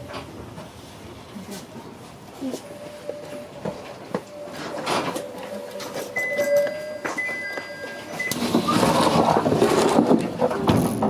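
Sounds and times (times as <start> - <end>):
rushing train noise: 0.0 - 11.0.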